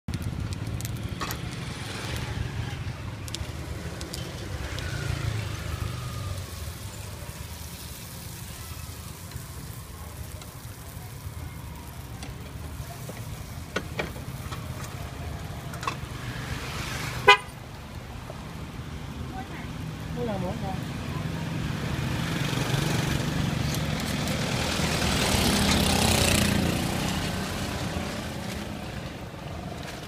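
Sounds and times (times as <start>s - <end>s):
street traffic engine rumble: 0.1s - 30.0s.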